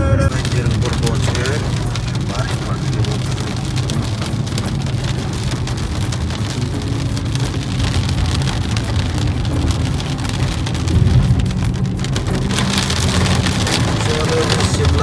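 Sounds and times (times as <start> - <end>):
heavy rain hitting a car: 0.0 - 15.0
low rumble of car on road: 0.0 - 15.0.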